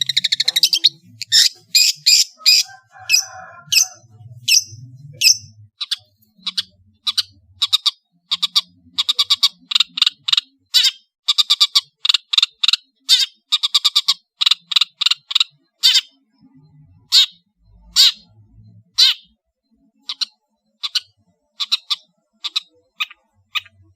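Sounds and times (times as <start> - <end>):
bird chattering song: 0.0 - 23.9.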